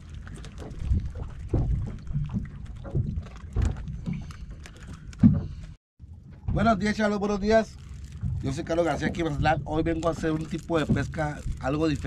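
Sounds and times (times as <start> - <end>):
wind and water rumble: 0.0 - 12.0
fish thumping against hull: 0.1 - 7.0, 8.2 - 11.4.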